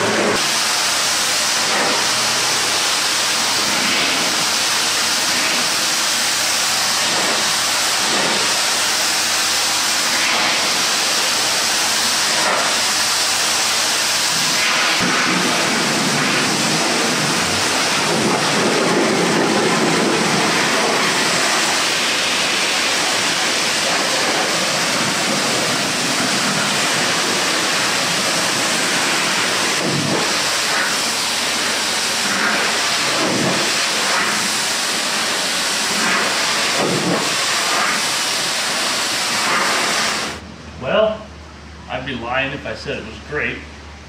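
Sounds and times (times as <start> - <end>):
pressure washer spraying water: 0.0 - 40.4.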